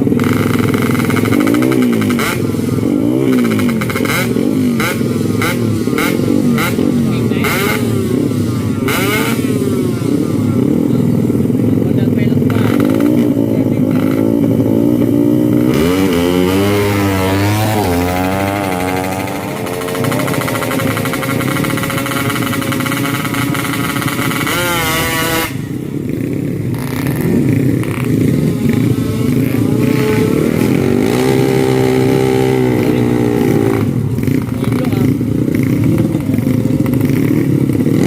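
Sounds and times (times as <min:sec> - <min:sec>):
lower engine sound: 0:00.0 - 0:38.0
motorcycle engines revving: 0:00.0 - 0:38.0.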